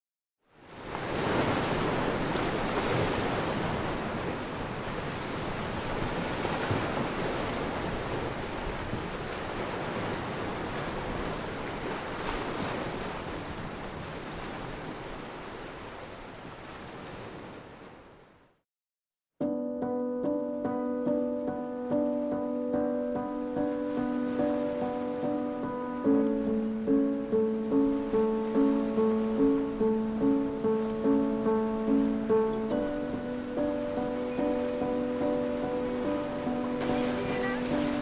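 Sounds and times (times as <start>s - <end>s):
ocean waves and surf: 0.5s - 18.6s, 19.6s - 38.0s.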